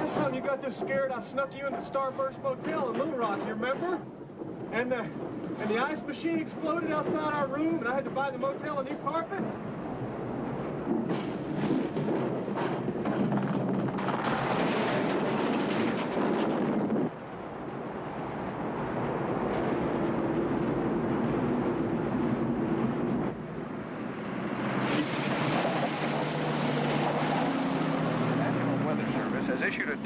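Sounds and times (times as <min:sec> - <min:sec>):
roaring storm wind: 0:00.0 - 0:30.0.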